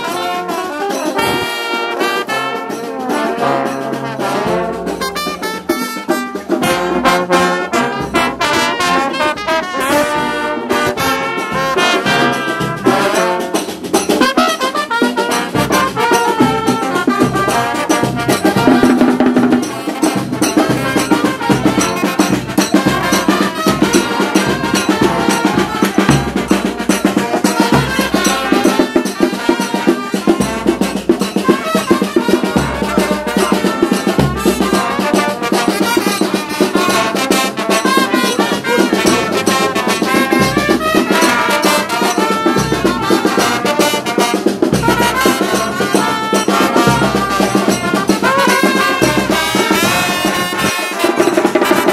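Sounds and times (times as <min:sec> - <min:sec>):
brass band music: 0:00.0 - 0:51.9.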